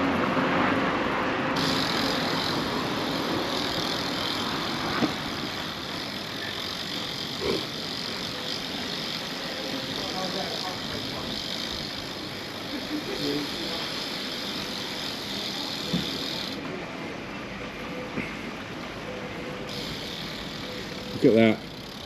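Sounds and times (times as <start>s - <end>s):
street and wind noise: 0.0s - 22.0s.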